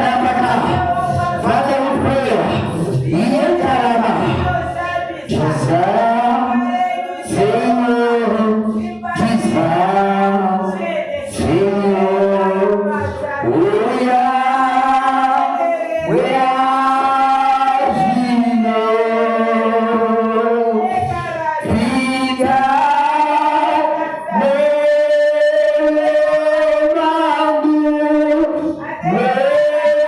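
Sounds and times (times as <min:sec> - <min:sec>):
congregation singing: 0:00.0 - 0:30.0.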